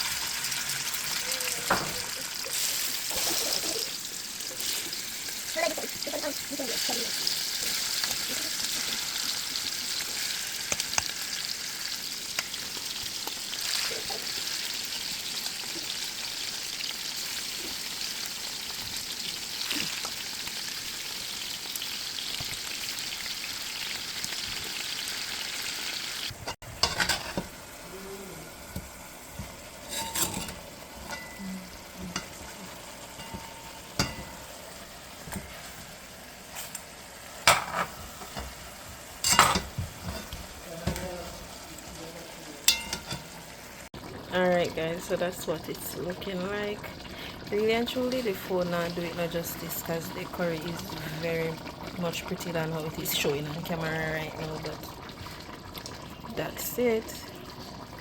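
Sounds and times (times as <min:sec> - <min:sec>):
chicken sizzling in a pot: 0:00.0 - 0:58.0.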